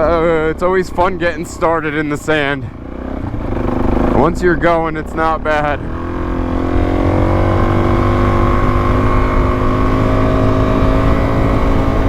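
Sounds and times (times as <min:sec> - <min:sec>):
motorcycle engine pulling: 0:00.0 - 0:12.0.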